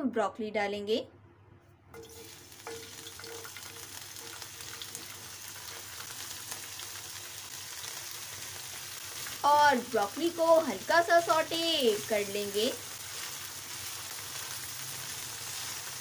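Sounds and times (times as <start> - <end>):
vegetables sizzling in hot oil: 2.0 - 16.0.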